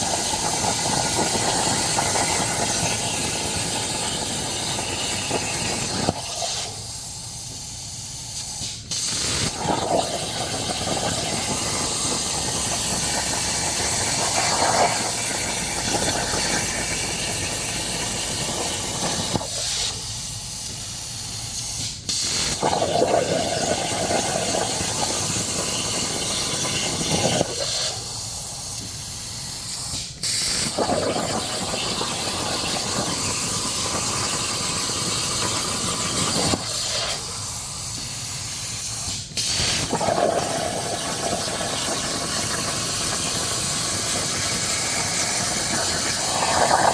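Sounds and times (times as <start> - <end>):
plasma cutter arc hissing: 0.0 - 22.6, 23.2 - 46.9.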